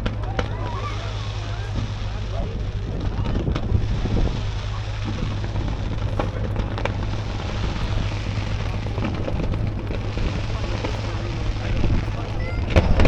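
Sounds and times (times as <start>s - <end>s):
fireworks bangs and crackles: 0.0s - 13.0s
steady low rumble: 0.0s - 13.0s.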